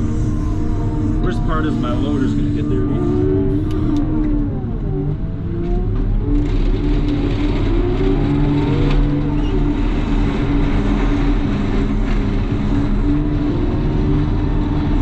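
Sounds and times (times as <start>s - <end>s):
loader diesel engine running: 0.0s - 15.0s.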